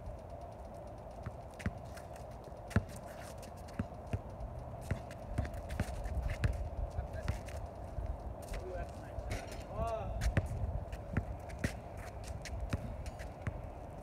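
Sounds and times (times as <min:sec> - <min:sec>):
sneaker steps: 0:00.6 - 0:14.0
basketball bouncing on asphalt: 0:01.0 - 0:08.6, 0:09.3 - 0:13.8.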